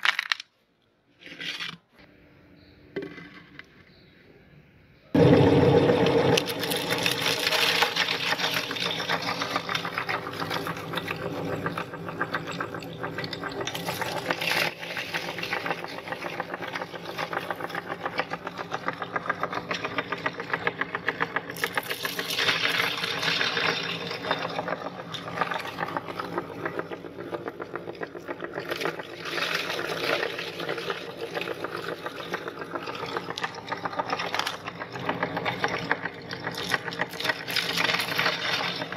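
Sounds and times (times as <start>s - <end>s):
meat grinder whirring and rattling: 5.2s - 38.9s.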